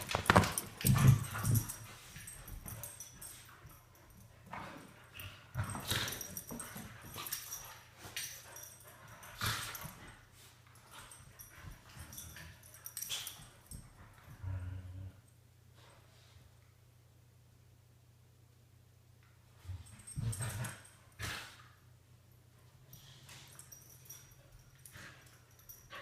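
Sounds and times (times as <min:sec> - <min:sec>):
dogs playing and scuffling: 0:00.0 - 0:16.5, 0:19.4 - 0:26.0.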